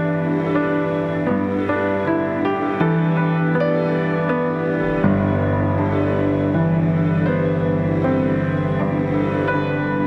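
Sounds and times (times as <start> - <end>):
slow ambient music: 0.0 - 10.0.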